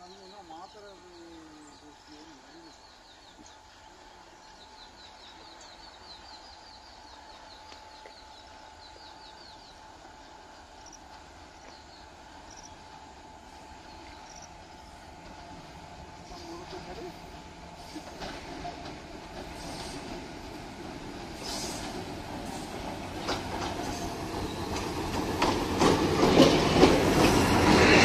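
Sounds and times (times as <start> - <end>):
distant locomotive rumble: 0.0 - 28.0
outdoor ambience: 0.0 - 28.0.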